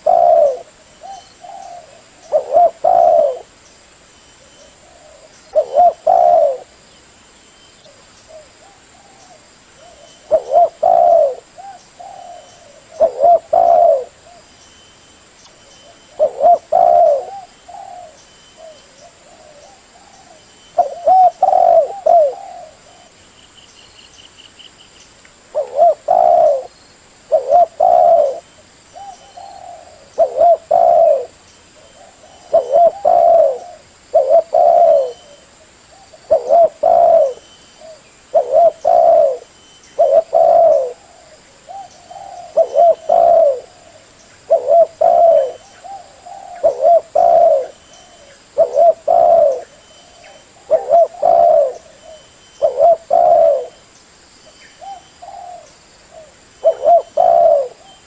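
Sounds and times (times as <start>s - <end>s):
dove cooing: 0.0s - 3.5s, 4.4s - 6.8s, 7.9s - 14.5s, 15.8s - 23.2s, 25.5s - 26.7s, 27.3s - 53.8s, 54.8s - 58.0s.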